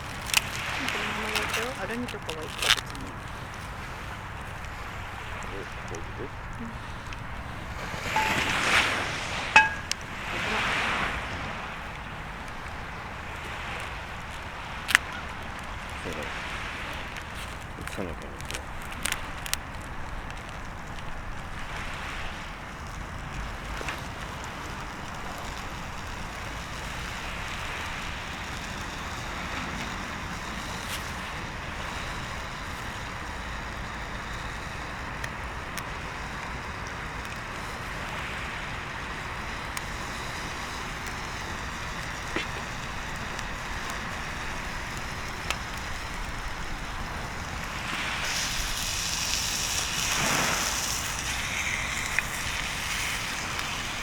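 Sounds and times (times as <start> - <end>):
bonfire crackling and popping: 0.0 - 54.0
wind hiss: 0.0 - 54.0.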